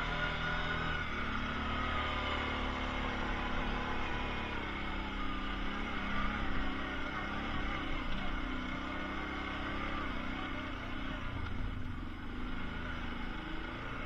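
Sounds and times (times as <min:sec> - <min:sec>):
atv engine whine: 0:00.0 - 0:14.0.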